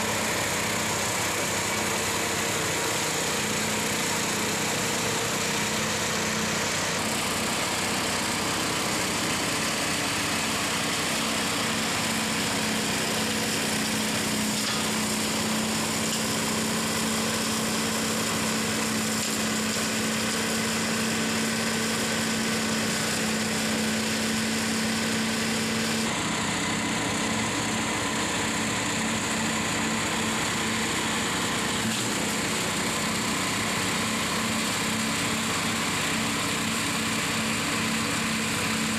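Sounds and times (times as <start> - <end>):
flail rotor cutting grass: 0.0 - 38.9
mower engine running: 0.0 - 38.9
quad bike engine: 0.0 - 38.9.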